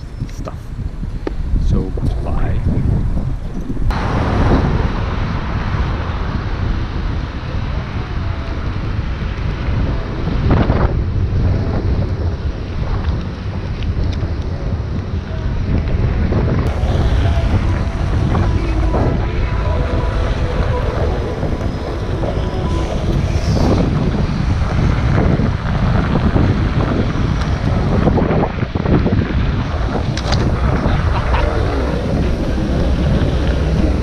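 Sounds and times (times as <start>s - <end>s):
heavy wind on microphone: 0.0s - 34.0s.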